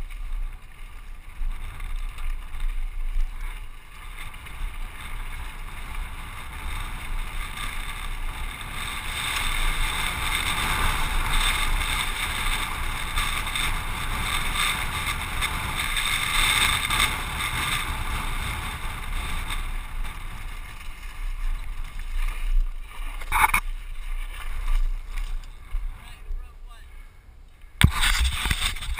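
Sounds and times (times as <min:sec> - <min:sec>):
bike tyres rattling on gravel: 0:00.0 - 0:26.8, 0:27.6 - 0:28.9
wind rushing over microphone: 0:00.0 - 0:27.0, 0:27.7 - 0:28.9.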